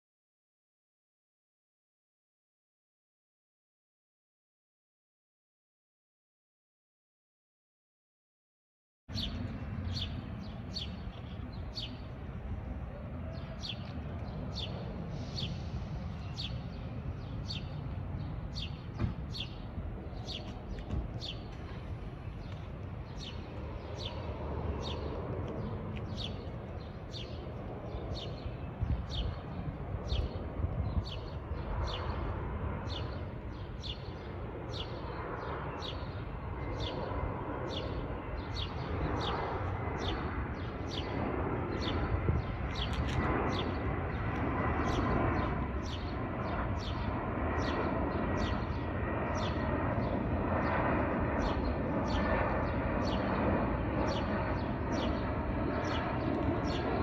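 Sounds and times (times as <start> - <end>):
jet airliner engines rushing: 9.1 - 57.0
low city rumble: 9.1 - 57.0.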